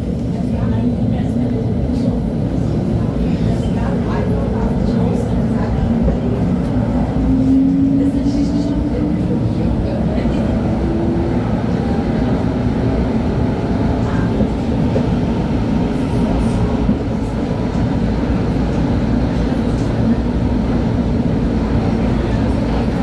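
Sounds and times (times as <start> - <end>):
tram rumbling along track: 0.0 - 23.0.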